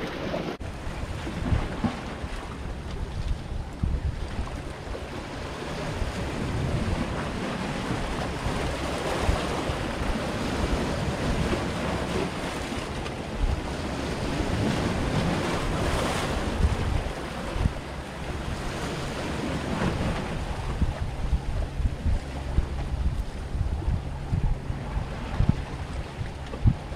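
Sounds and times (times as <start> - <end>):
waves washing against rocks: 0.0 - 23.6
wind rumbling on microphone: 0.0 - 26.9.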